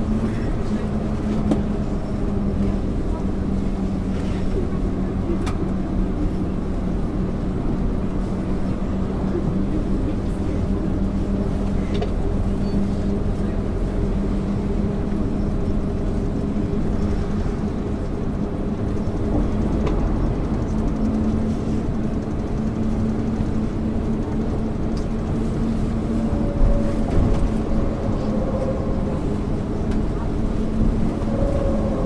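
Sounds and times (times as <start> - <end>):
bus engine drone: 0.0 - 32.0
road rumble: 0.0 - 32.0.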